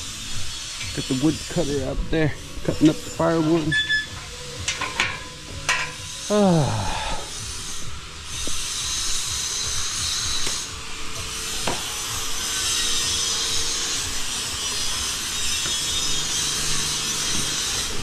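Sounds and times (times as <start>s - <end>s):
saw cutting firewood: 0.0s - 18.0s.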